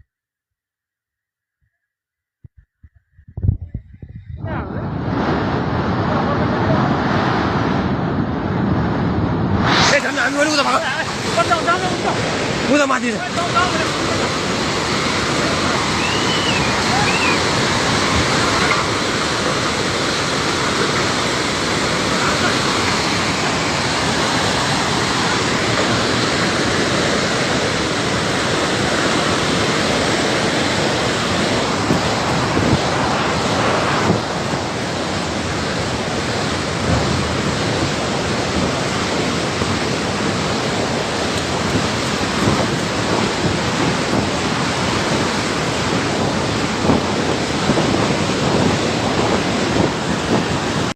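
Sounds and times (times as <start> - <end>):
floodwater rushing: 8.6 - 50.9.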